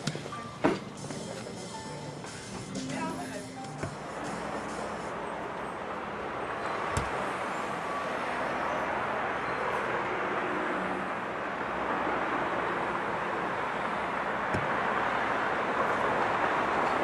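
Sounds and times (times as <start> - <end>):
distant traffic hiss: 0.0 - 17.0.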